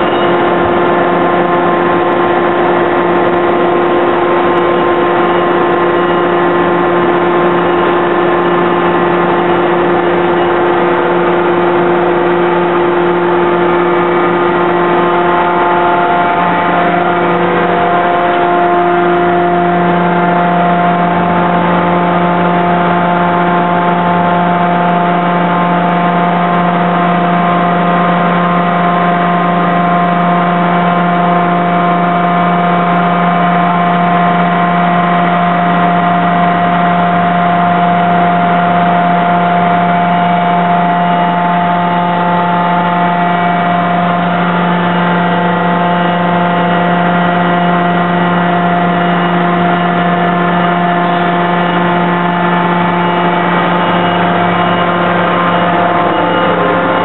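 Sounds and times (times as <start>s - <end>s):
hydraulic power unit drone: 0.0s - 57.0s.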